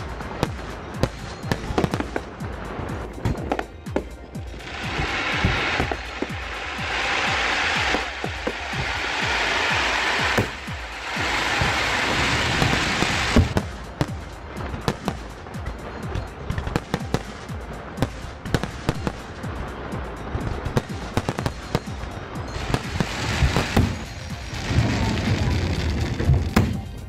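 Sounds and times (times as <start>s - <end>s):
fireworks bangs and pops: 0.0s - 27.0s
fireworks fizzing crackle: 0.0s - 27.0s.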